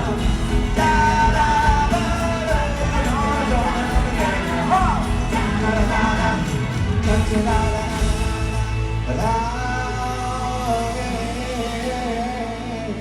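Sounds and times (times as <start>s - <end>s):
band playing slow pop song: 0.0s - 13.0s
person singing: 0.0s - 13.0s.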